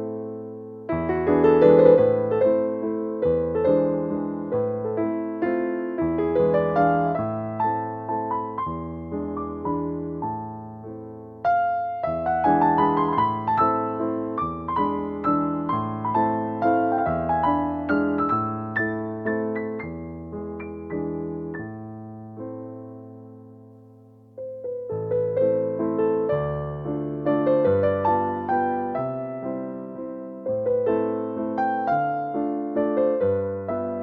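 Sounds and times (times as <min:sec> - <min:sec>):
slow piano music: 0:00.0 - 0:34.0.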